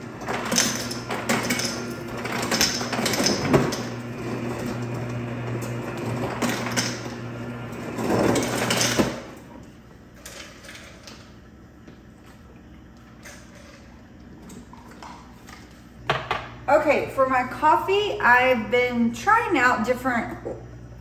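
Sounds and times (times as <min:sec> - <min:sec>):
electric hum: 0:00.0 - 0:21.0.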